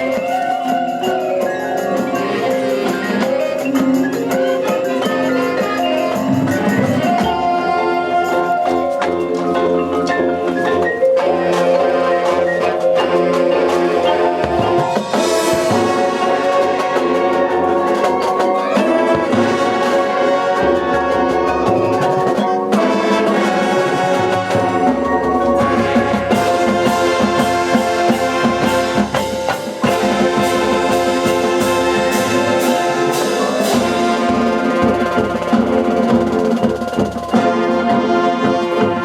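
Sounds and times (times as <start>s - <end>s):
marching band playing: 0.0s - 39.0s
percussion: 0.0s - 39.0s
sustained brass chords: 4.6s - 39.0s.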